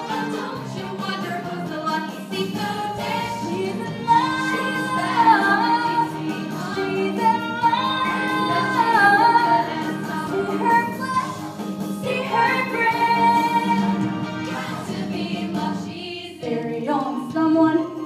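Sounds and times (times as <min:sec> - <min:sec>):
women singing a show tune: 0:00.0 - 0:11.4, 0:12.0 - 0:14.0, 0:14.6 - 0:18.0
instrumental accompaniment: 0:00.0 - 0:18.0.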